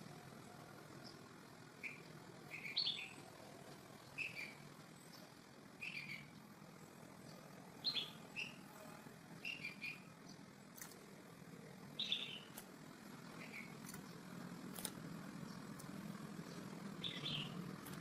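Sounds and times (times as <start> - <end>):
steady low hiss: 0.0 - 18.0
small bird chirping: 0.5 - 8.7, 9.4 - 18.0.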